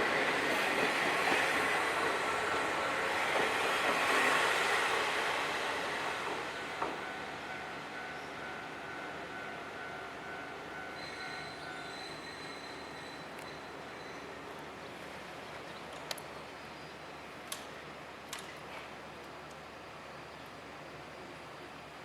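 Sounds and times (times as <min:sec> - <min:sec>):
train rumbling past: 0:00.0 - 0:18.2
high whine from train wheels: 0:00.0 - 0:22.0.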